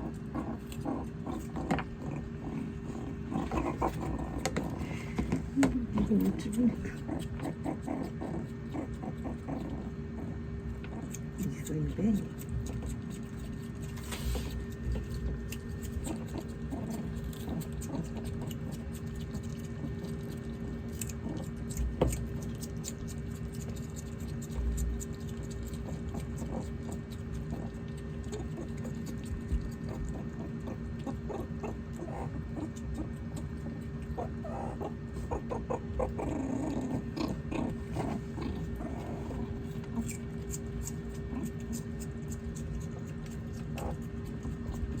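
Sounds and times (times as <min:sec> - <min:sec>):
small clicks and scratches: 0:00.0 - 0:10.0, 0:10.7 - 0:45.0
steady hum: 0:00.0 - 0:45.0.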